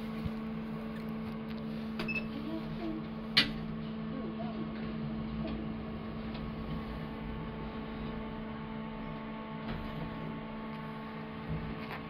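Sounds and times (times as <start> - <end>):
elevator machinery humming: 0.0 - 12.0.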